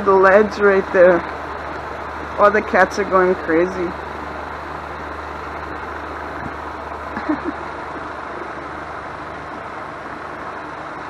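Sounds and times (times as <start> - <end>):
low background hum with hiss: 0.0 - 11.0.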